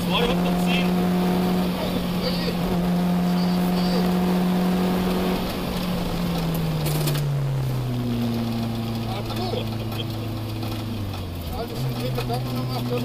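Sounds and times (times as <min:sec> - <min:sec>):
car engine revving down: 0:00.0 - 0:13.0.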